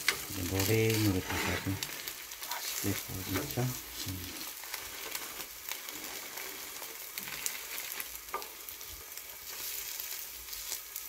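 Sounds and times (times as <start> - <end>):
omelette sizzling in oil: 0.0 - 11.0
sharp crackles and ticks: 0.0 - 11.0.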